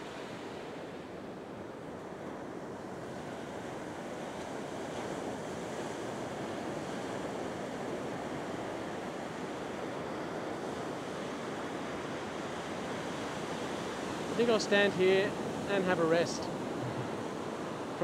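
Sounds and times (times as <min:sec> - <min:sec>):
waves breaking on beach: 0:00.0 - 0:18.0.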